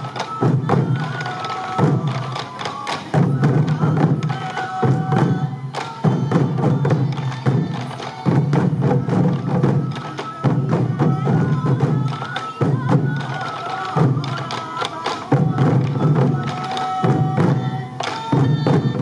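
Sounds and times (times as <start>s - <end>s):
bamboo flute melody: 0.0s - 19.0s
taiko drums beaten in rhythm: 0.0s - 19.0s.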